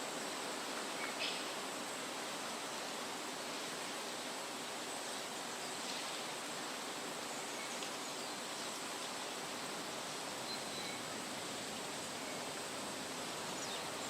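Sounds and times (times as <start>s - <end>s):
steady forest hiss: 0.0s - 14.0s.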